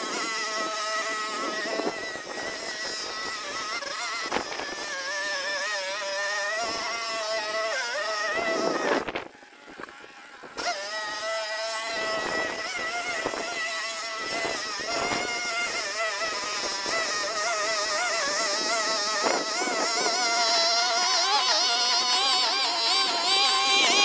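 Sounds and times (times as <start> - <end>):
string trimmer engine running: 0.0 - 24.0.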